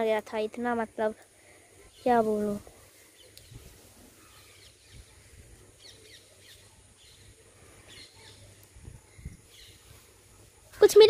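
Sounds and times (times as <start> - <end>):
outdoor hiss and low rumble: 0.0 - 11.0
faint bird chirps: 1.4 - 11.0.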